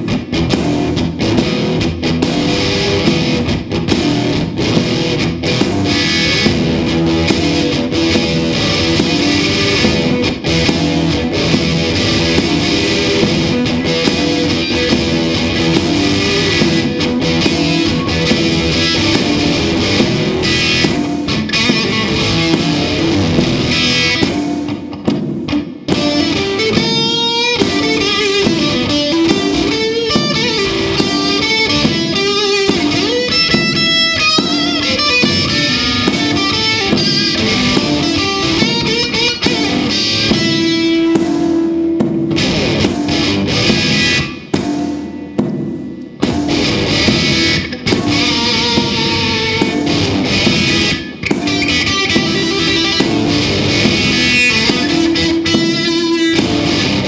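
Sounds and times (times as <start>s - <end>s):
drums: 0.0s - 57.0s
electric guitars: 0.0s - 57.0s.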